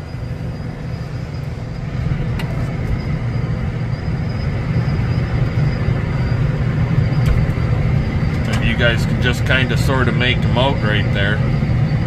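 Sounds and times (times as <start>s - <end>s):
faint high whine: 0.0s - 12.0s
tractor engine rumble: 0.0s - 12.0s.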